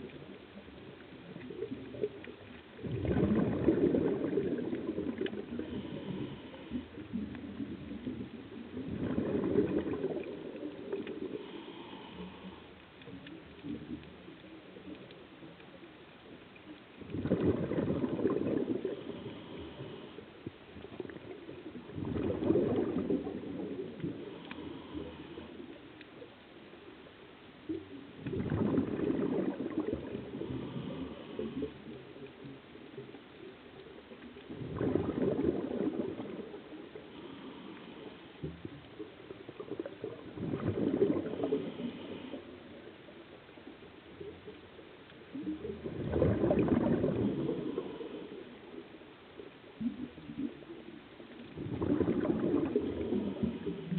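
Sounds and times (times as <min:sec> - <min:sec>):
scuba regulator bubbles underwater: 0:00.0 - 0:53.9.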